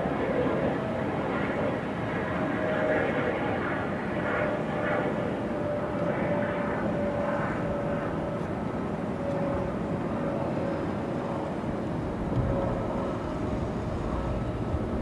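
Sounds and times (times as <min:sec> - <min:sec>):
outdoor warning siren: 0:00.0 - 0:14.9.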